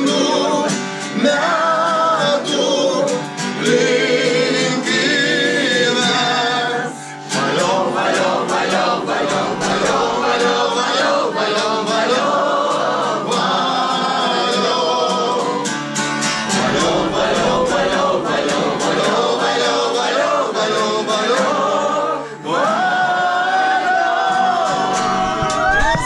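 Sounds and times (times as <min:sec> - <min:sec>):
choir singing: 0:00.0 - 0:25.9.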